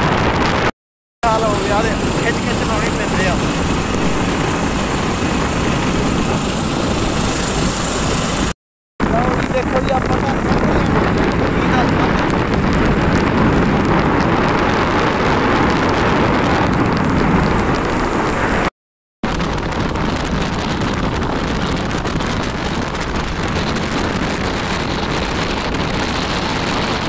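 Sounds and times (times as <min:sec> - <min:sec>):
road noise: 0:00.0 - 0:18.7, 0:19.3 - 0:27.0
wind on microphone: 0:00.0 - 0:27.0.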